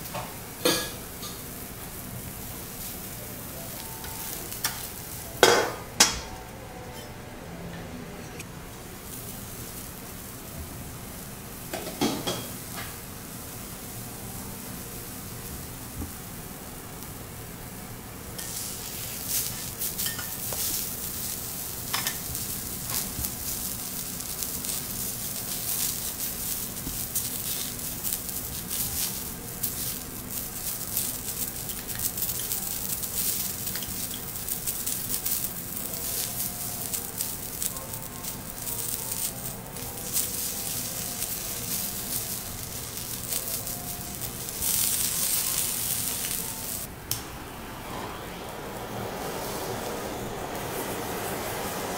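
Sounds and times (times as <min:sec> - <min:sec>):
vegetables sizzling on griddle: 0:00.0 - 0:06.0, 0:08.7 - 0:46.9, 0:49.2 - 0:51.9.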